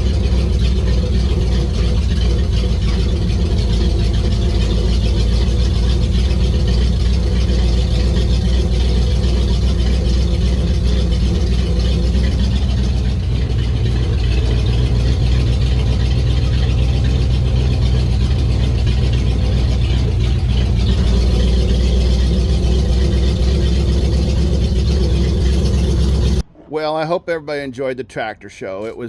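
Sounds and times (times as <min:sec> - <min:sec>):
engine running with deep hum: 0:00.0 - 0:26.5.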